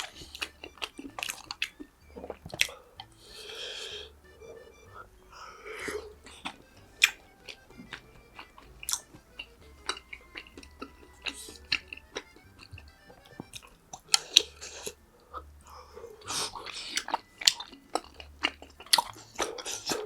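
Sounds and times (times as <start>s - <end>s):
person chewing food: 0.0s - 20.0s
quiet background music: 0.0s - 20.0s.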